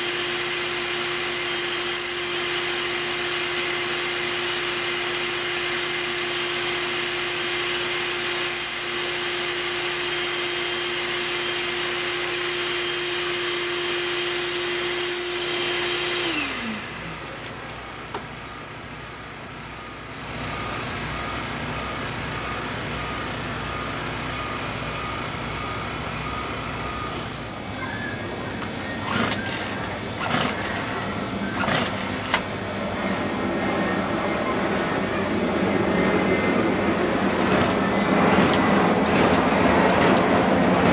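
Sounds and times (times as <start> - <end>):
low machine noise: 0.0 - 40.9
vacuum motor whine: 0.0 - 40.9.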